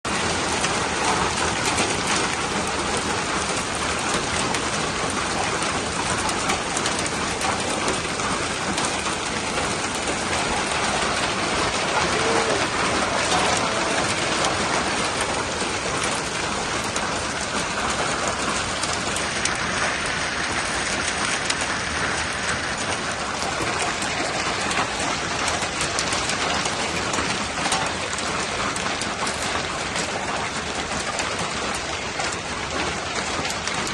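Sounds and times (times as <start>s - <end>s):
hail striking surfaces: 0.1s - 33.9s.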